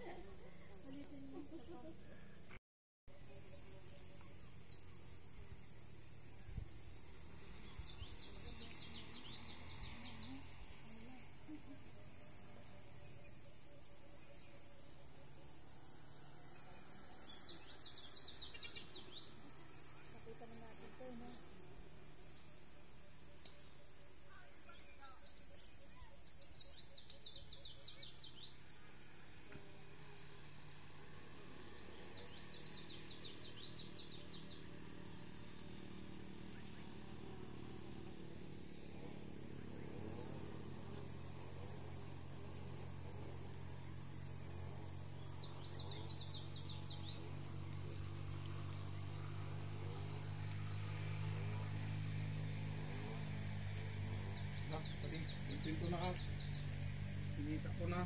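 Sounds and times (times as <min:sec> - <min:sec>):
birds chirping: 0:00.0 - 0:58.0
steady low hum: 0:03.1 - 0:58.0.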